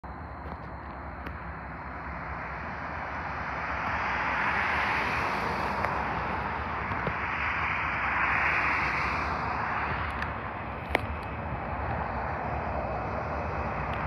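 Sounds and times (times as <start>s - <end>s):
train rushing noise: 0.1s - 14.0s.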